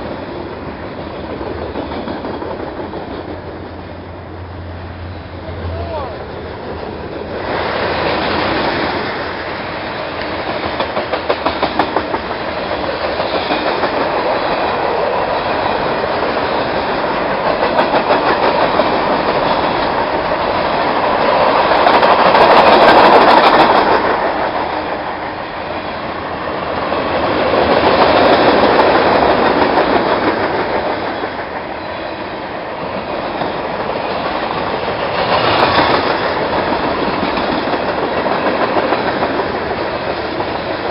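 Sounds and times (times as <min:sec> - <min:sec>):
freight train wheels clicking on rails: 0:00.0 - 0:40.9
train rumble: 0:00.0 - 0:40.9.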